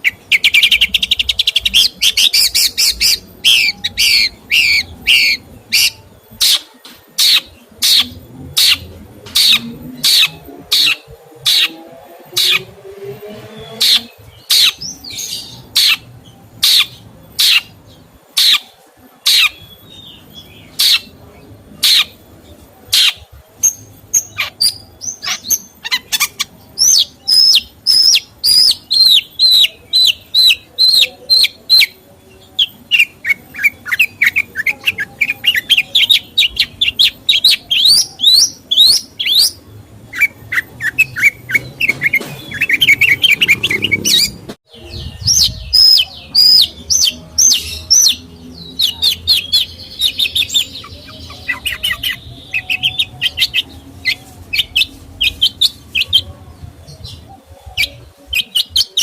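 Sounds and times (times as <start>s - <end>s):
songbird calling and singing: 0.0s - 59.0s.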